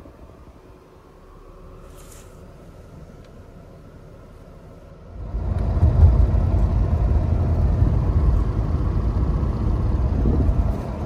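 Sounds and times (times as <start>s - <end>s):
engine and road rumble: 0.0s - 11.0s
faint car cabin hum: 0.0s - 11.0s.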